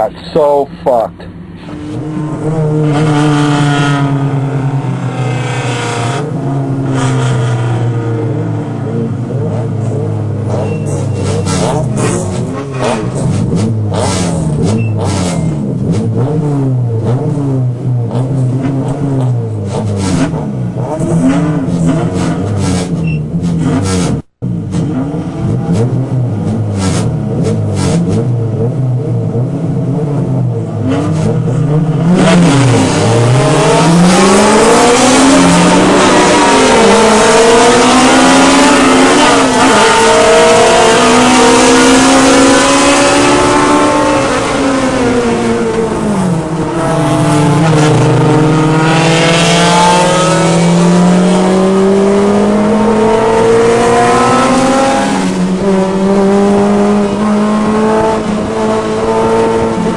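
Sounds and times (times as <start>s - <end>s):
race car engine revving: 0.0s - 59.9s
road and wind noise: 0.0s - 59.9s.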